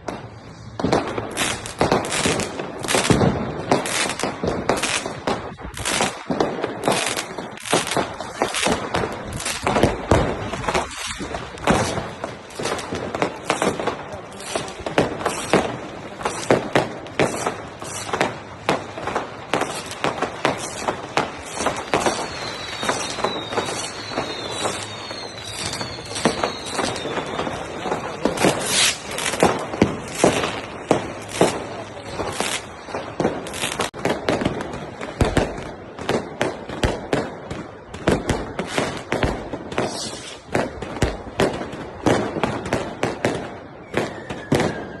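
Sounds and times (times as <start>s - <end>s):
fireworks and firecrackers banging: 0.0s - 45.0s
whistling rockets: 0.0s - 45.0s.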